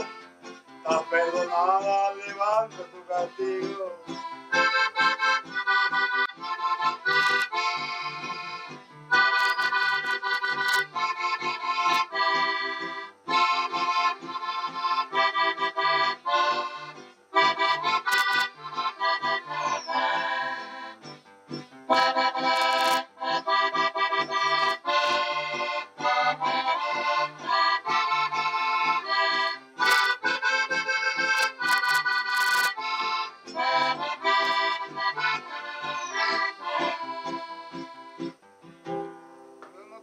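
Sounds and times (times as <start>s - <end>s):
accordions playing a lively tune: 0.0s - 38.4s
acoustic guitar accompaniment: 0.0s - 40.0s.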